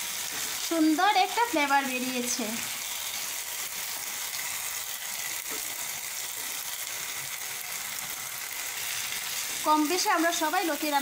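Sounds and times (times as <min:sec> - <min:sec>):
vegetables sizzling in pan: 0:00.0 - 0:11.0.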